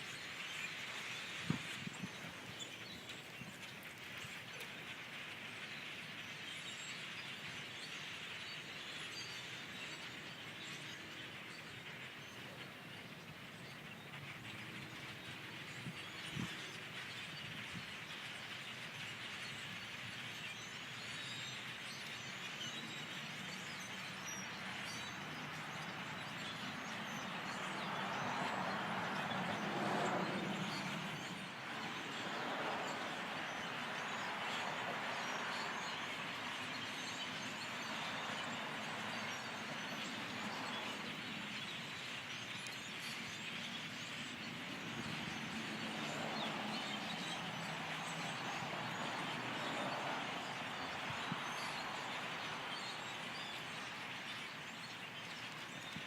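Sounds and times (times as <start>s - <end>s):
flock of birds chattering: 0.0s - 56.0s.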